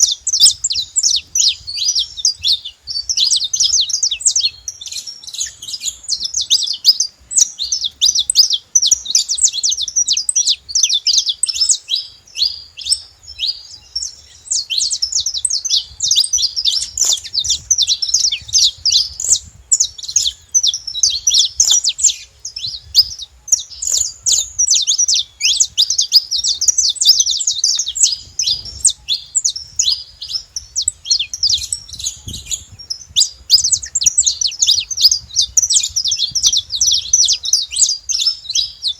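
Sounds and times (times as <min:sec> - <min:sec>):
finches chirping and trilling: 0:00.0 - 0:38.9.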